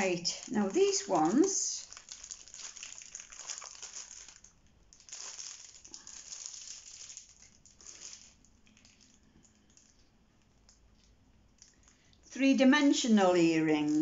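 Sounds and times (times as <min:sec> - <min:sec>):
plastic packaging crinkling: 0:00.0 - 0:12.2, 0:13.4 - 0:14.0.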